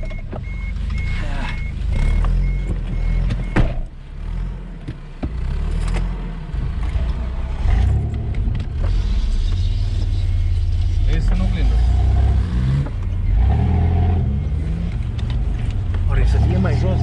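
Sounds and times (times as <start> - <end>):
off-road vehicle engine at low revs: 0.0 - 17.0.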